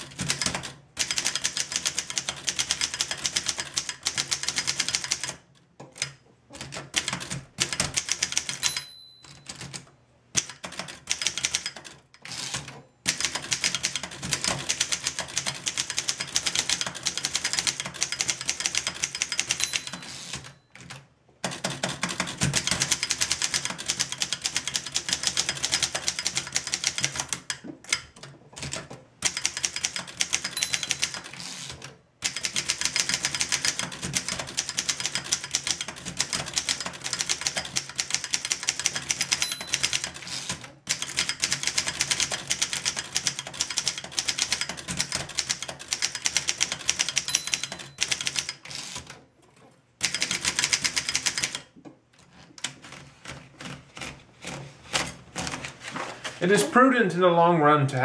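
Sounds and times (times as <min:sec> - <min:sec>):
typewriter typing quickly: 0:00.0 - 0:49.2, 0:50.0 - 0:51.7, 0:52.6 - 0:56.5.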